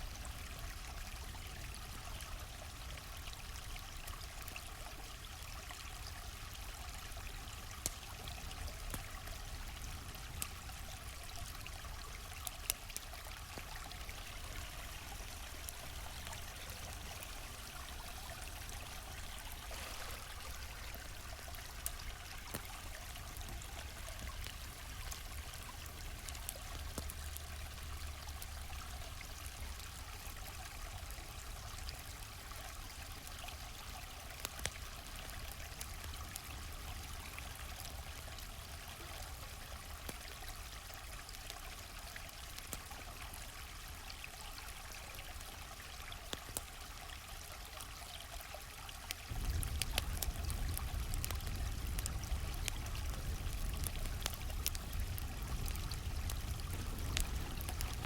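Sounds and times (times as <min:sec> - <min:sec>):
campfire crackles: 0:00.0 - 0:58.0
stream flowing: 0:00.0 - 0:58.0.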